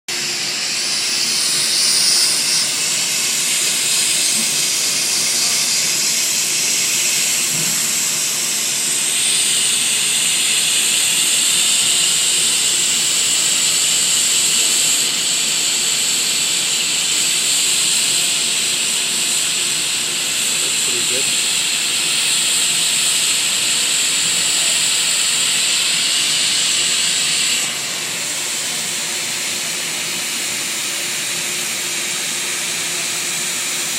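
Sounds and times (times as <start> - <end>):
hot-air welding gun hissing: 0.1 - 33.9.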